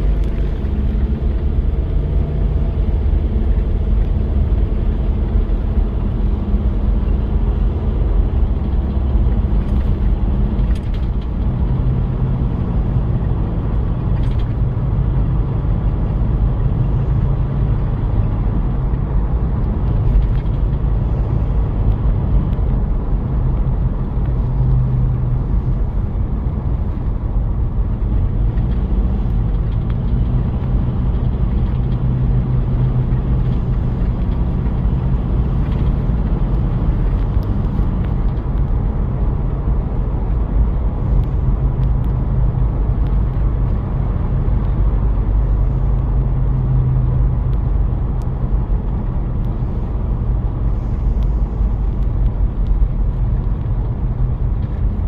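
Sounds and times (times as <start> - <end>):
diesel engine running: 0.0 - 55.0
road noise: 0.0 - 55.0.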